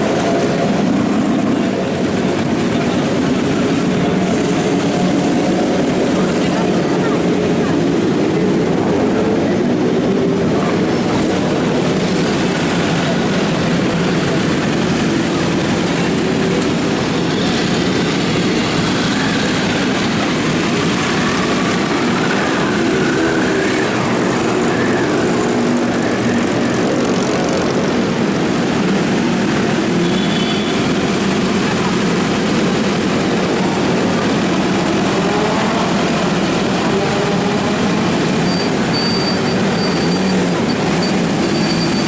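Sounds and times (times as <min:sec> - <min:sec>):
motorcycle engines running: 0:00.0 - 0:42.0.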